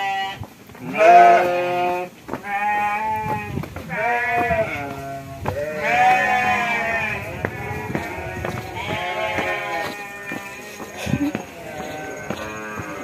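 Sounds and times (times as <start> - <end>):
livestock bleating: 0.0 - 13.0
running footsteps: 0.0 - 13.0.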